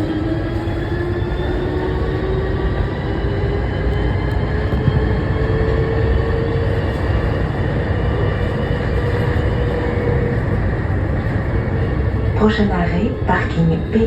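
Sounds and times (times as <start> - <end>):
train running gear rumble: 0.0 - 14.0.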